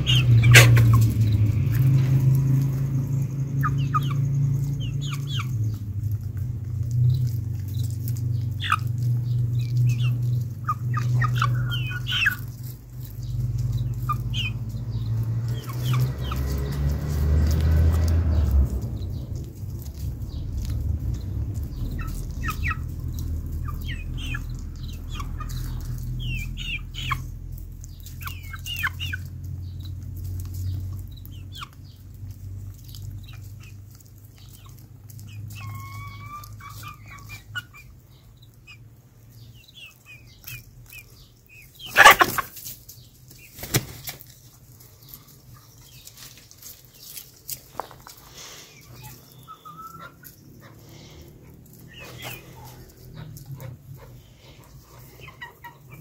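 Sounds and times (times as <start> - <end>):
hens clucking: 0.0 - 56.0
hens pecking clicks: 0.0 - 56.0.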